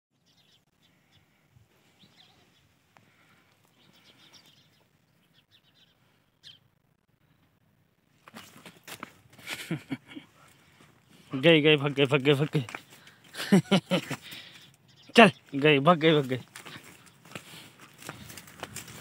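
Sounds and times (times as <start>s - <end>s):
faint birds chirping: 0.1s - 19.0s.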